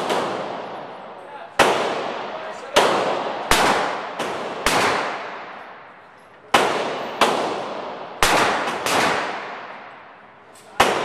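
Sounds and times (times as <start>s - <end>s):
pistol shots echoing: 0.0s - 10.2s, 10.8s - 11.0s.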